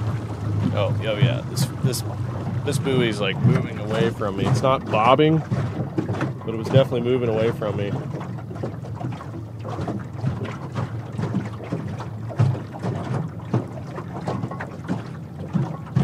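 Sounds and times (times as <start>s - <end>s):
small waves slapping a boat hull: 0.0s - 16.0s
wind buffeting microphone: 0.0s - 16.0s.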